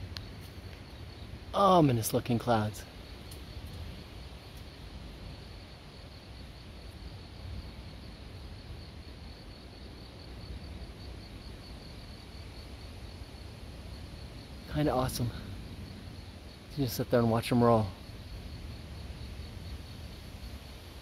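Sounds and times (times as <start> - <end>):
insects chirping: 0.0 - 21.0
outdoor background noise: 0.0 - 21.0.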